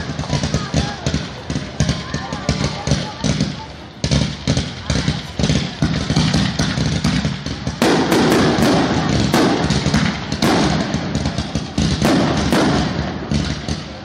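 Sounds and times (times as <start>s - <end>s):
fireworks bangs and pops: 0.0s - 14.0s
fireworks crackle: 0.0s - 14.0s.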